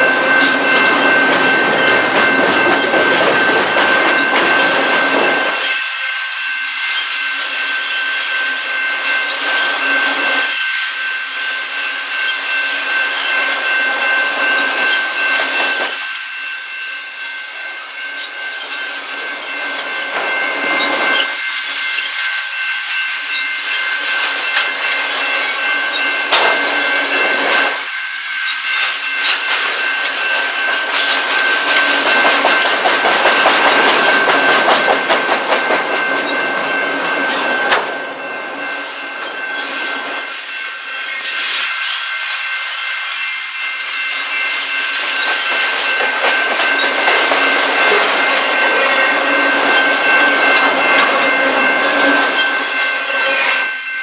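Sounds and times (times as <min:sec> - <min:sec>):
train wheels clicking over rail joints: 0:00.0 - 0:10.6, 0:11.6 - 0:16.0, 0:16.8 - 0:27.9, 0:28.5 - 0:53.6.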